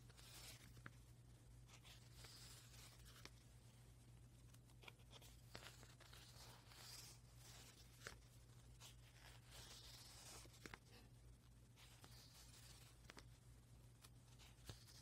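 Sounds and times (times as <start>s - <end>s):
paper pages handled: 0.0s - 1.0s, 1.6s - 3.5s, 4.4s - 11.1s, 11.7s - 13.4s, 14.0s - 15.0s
low steady hum: 0.0s - 15.0s.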